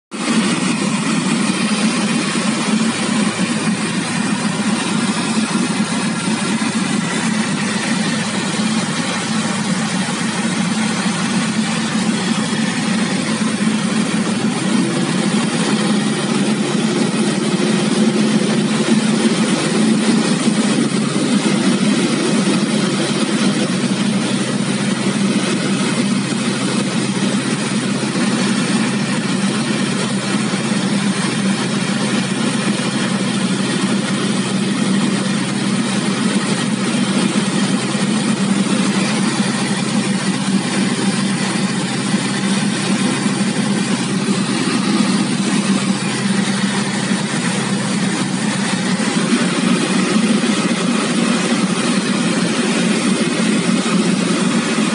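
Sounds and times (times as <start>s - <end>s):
airplane engine and propeller drone: 0.1s - 54.9s.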